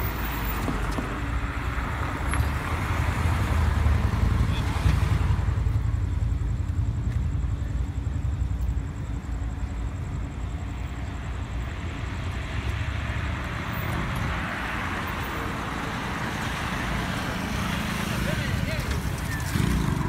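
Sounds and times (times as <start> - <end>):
car passing: 0.0 - 6.6, 9.0 - 20.0
background traffic: 0.0 - 20.0.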